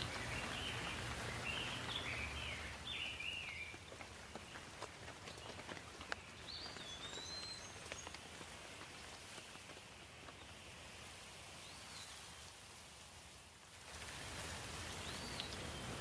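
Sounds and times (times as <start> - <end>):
rain falling: 0.0 - 12.6, 13.4 - 16.0.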